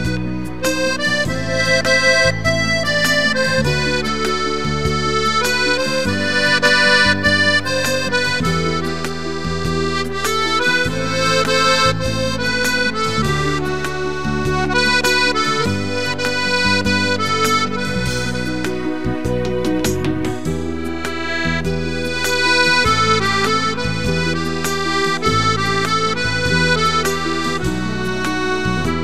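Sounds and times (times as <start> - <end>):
accordion melody with bass notes: 0.0 - 29.0.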